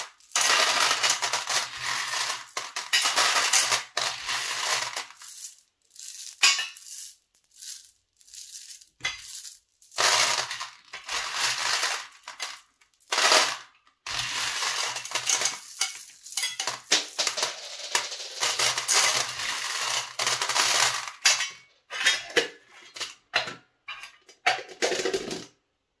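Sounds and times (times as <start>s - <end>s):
candies clattering in metal tins: 0.0s - 25.5s.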